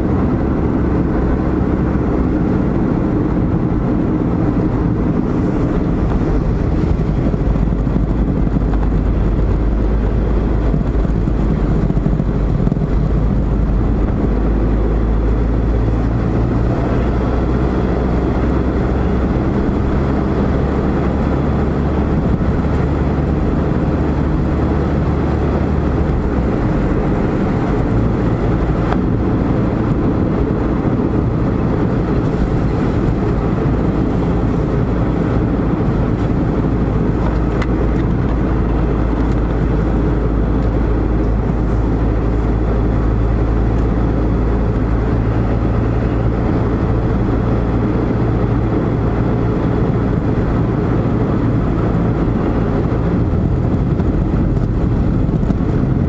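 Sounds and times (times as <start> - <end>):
car engine rumble: 0.0 - 56.0
tyre road noise: 0.0 - 56.0.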